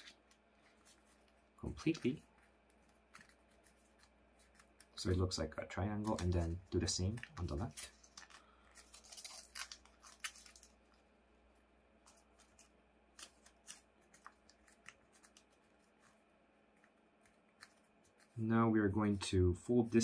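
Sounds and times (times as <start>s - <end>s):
paper crackling being folded: 0.0s - 11.1s, 12.0s - 20.0s.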